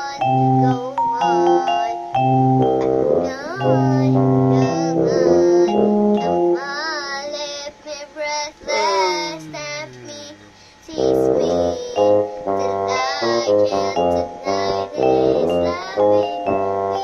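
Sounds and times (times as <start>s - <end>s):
child singing: 0.0s - 2.2s, 2.8s - 17.0s
keyboard accompaniment: 0.0s - 7.7s, 8.6s - 17.0s.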